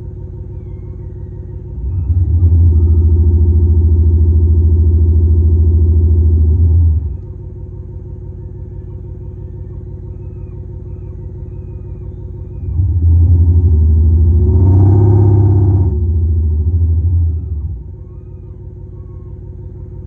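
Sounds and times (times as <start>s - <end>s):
electronic engine rumble: 0.0s - 20.0s.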